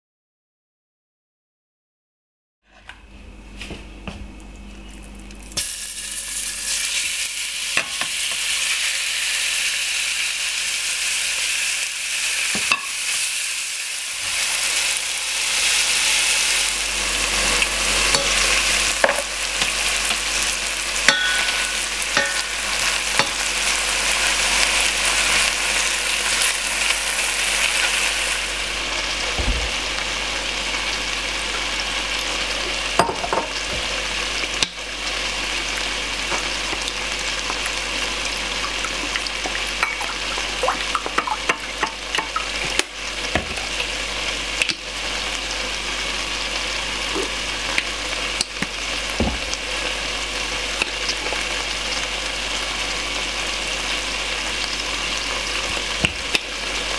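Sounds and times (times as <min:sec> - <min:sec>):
food frying in hot oil: 0:04.4 - 0:56.9.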